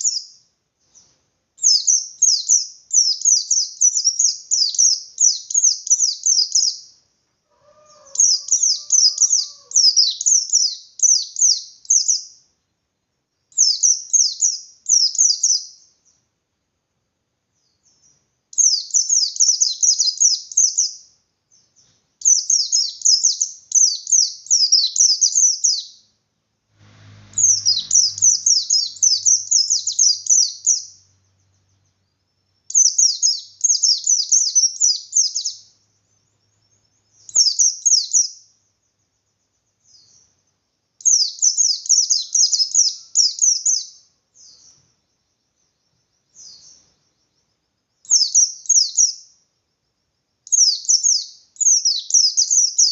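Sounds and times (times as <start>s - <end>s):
white-eye bird singing rapid notes: 0.0s - 7.0s, 8.0s - 12.4s, 13.5s - 16.2s, 17.6s - 26.1s, 27.2s - 38.5s, 39.6s - 47.4s, 48.0s - 49.4s, 50.5s - 52.9s.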